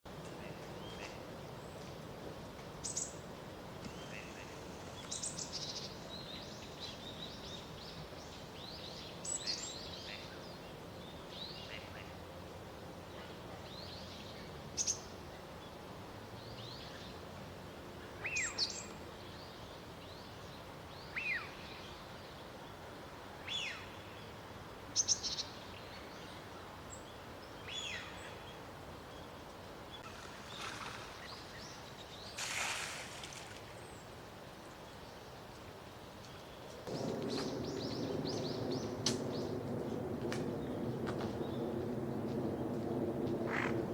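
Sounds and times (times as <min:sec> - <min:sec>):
outdoor background noise: 0:00.0 - 0:43.9.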